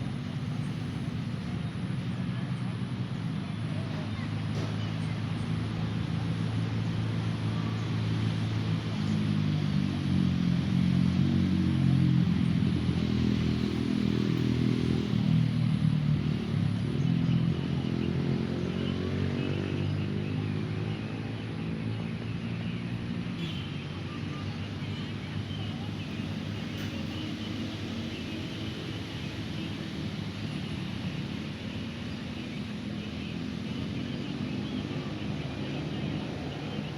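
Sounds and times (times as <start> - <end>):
vehicle engine passing by: 3.6 - 36.9.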